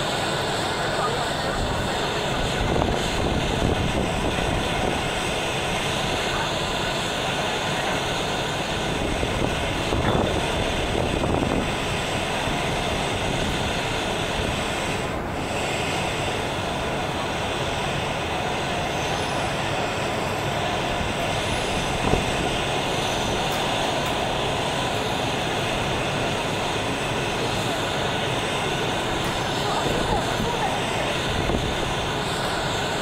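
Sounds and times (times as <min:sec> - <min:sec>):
city rumble and hiss: 0:00.0 - 0:33.0.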